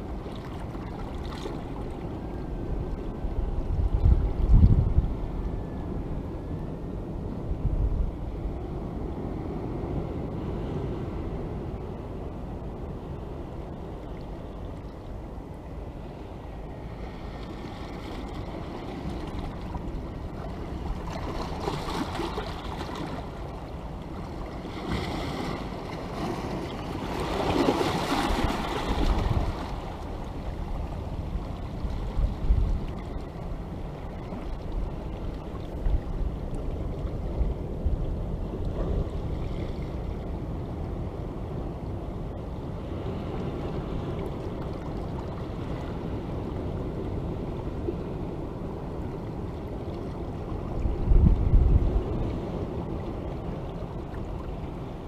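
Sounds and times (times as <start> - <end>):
wind buffeting microphone: 2.2 - 13.2, 17.0 - 44.3, 45.5 - 53.7
sea waves on rocky shore: 8.7 - 55.0.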